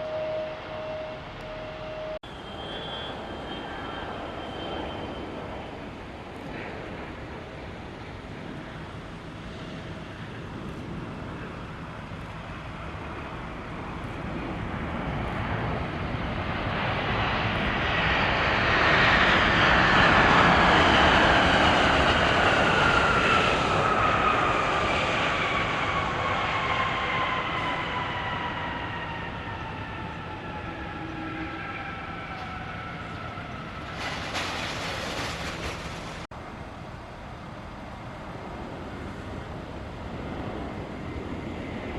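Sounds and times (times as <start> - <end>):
jet engines passing by: 0.0 - 41.9.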